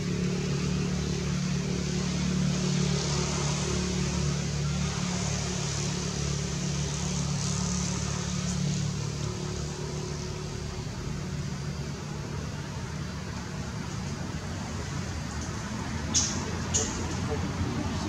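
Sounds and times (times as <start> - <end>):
constant hiss: 0.0 - 18.0.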